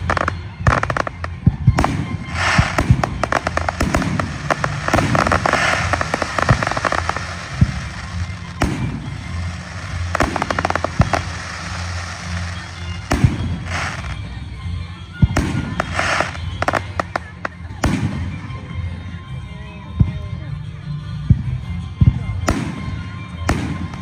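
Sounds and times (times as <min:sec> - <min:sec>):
fireworks bangs: 0:00.0 - 0:19.0, 0:22.2 - 0:24.0
fireworks crackling: 0:00.0 - 0:19.3, 0:22.3 - 0:24.0.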